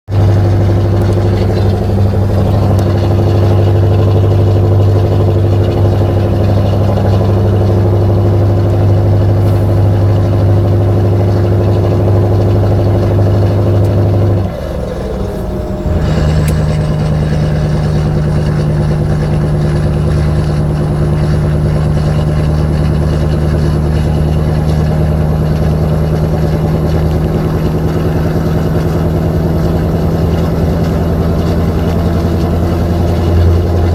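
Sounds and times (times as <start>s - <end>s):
diesel truck engine pulling under load: 0.1s - 33.9s.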